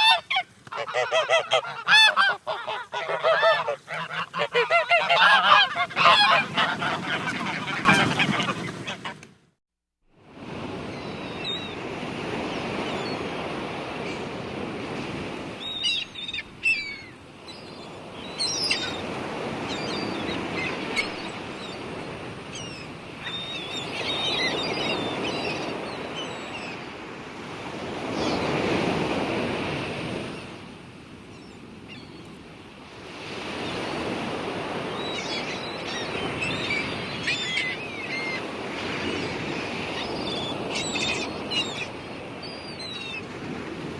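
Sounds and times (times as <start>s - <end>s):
waves washing in and out: 0.0s - 9.4s, 10.1s - 43.9s.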